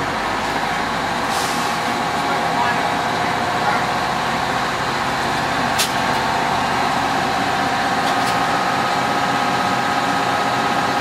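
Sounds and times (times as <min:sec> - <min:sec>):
fire engine running: 0:00.0 - 0:11.0.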